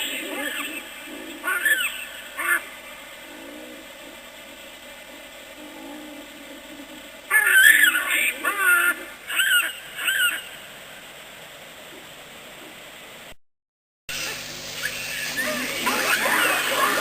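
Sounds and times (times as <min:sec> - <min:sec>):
harsh animal calls at night: 0:00.0 - 0:12.9, 0:14.1 - 0:17.0.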